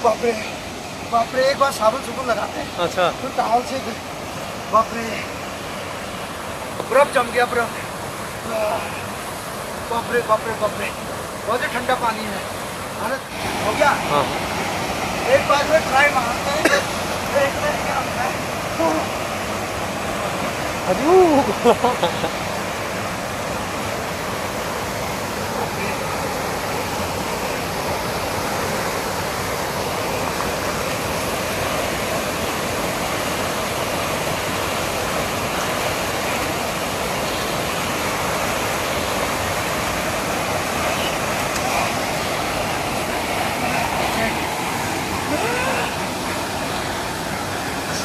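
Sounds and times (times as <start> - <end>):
mountain river rushing: 0.0 - 48.0.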